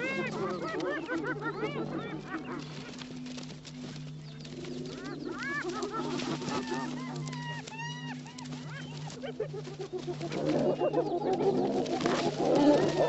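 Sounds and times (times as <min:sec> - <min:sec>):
hyenas giggling and yelping: 0:00.0 - 0:13.0.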